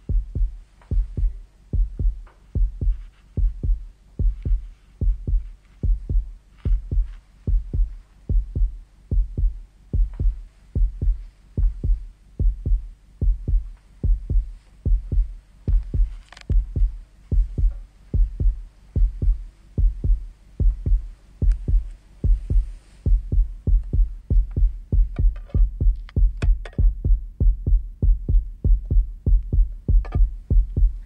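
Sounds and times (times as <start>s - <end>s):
heartbeat thumps: 0.0s - 31.0s.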